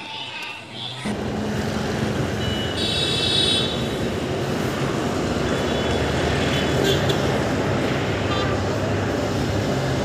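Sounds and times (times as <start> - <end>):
steady vehicle noise: 0.0 - 10.0.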